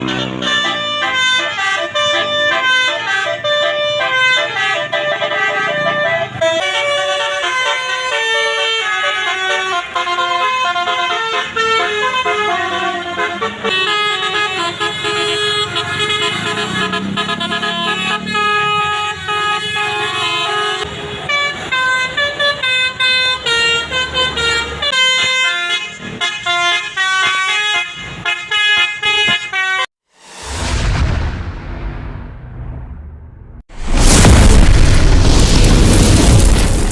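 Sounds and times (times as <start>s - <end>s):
musical air horn melody: 0.0s - 29.9s.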